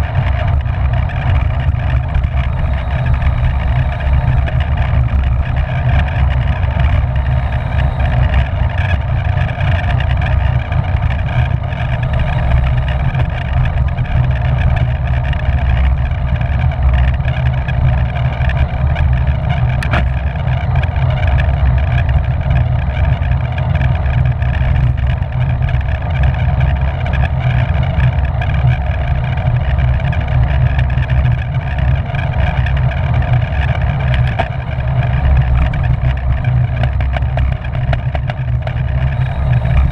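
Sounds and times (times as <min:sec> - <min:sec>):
road noise rumble: 0:00.0 - 0:39.9
wind rushing on microphone: 0:00.0 - 0:39.9.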